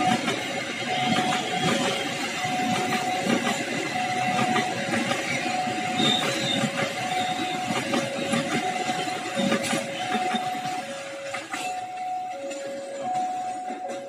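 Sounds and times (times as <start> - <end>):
level-crossing alarm two tones: 0.0 - 14.0
train wheels clacking on rails: 0.0 - 14.0.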